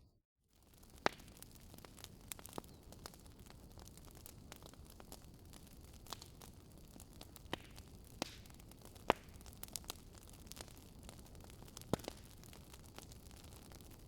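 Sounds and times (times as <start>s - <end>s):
wood fire crackling and popping: 0.6s - 14.0s.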